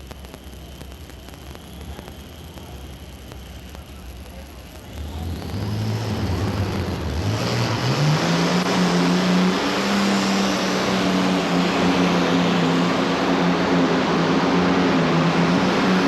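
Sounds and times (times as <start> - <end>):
tractor engine at full throttle: 0.0 - 16.0.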